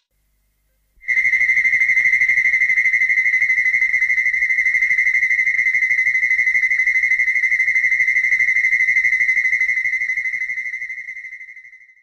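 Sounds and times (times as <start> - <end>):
pulsing high electronic tone: 1.0 - 11.8.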